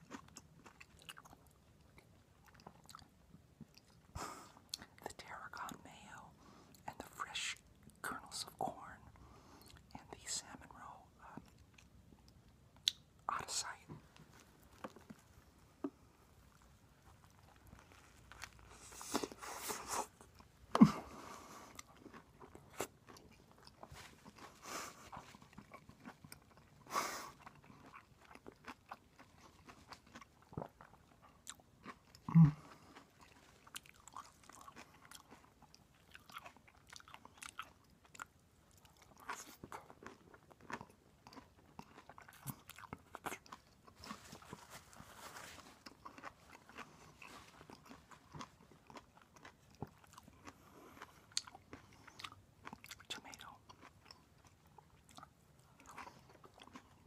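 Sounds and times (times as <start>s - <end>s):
person chewing sandwich: 0.0s - 57.0s.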